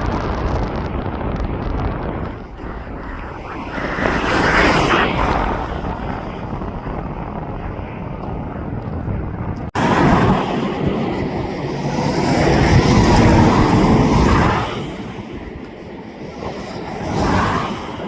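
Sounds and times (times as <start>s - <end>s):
wind buffeting microphone: 0.0s - 18.0s
aircraft engine passing: 1.9s - 18.0s.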